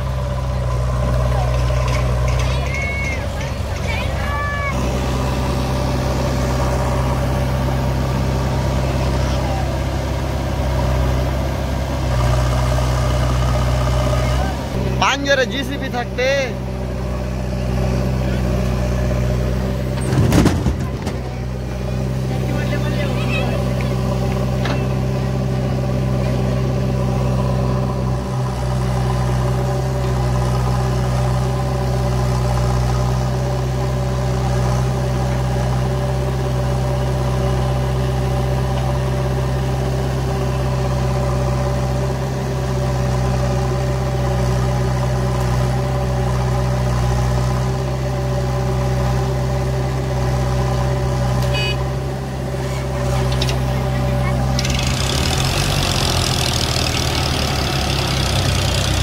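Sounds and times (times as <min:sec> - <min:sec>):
diesel engines droning: 0:00.0 - 0:59.0.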